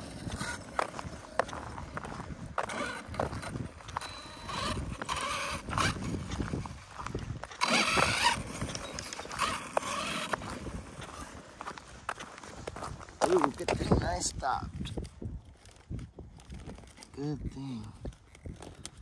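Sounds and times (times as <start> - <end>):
electric motor whining: 0.0 - 19.0
tyres crunching on gravel: 0.0 - 19.0.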